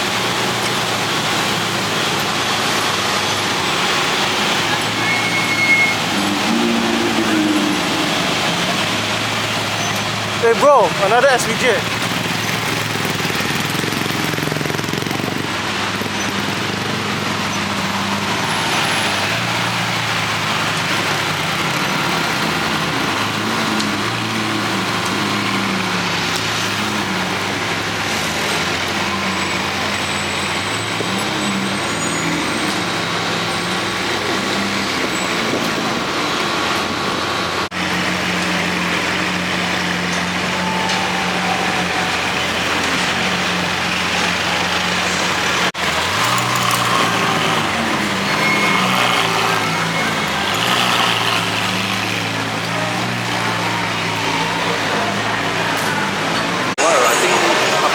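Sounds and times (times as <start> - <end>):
city street traffic: 0.0 - 57.9
idling engines humming: 0.0 - 57.9.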